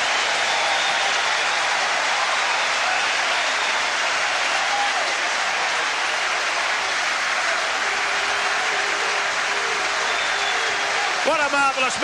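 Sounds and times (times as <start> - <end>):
stadium crowd applauding: 0.0 - 12.0.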